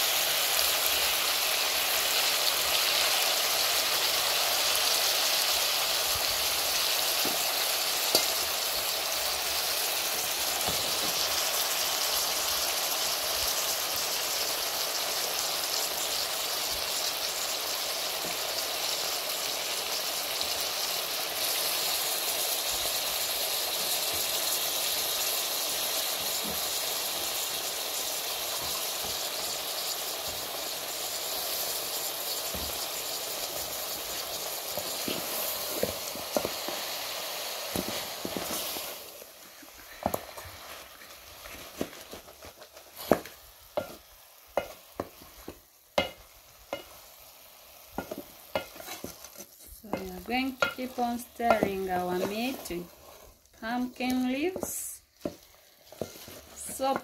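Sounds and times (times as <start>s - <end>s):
meat and leaves sizzling in saucepan: 0.0s - 57.0s.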